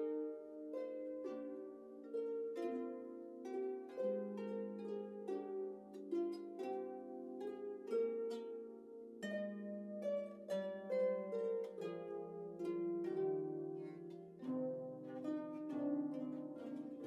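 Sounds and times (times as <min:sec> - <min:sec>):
harp ensemble playing: 0:00.0 - 0:17.0.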